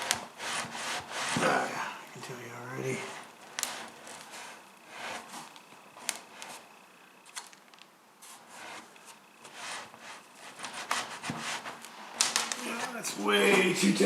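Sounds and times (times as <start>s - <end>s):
soft wood scraping: 0.0s - 7.6s, 8.2s - 13.7s.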